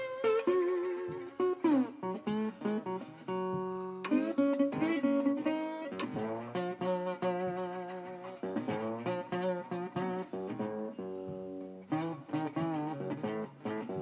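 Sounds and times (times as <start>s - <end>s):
slide resonator guitar blues: 0.0s - 14.0s.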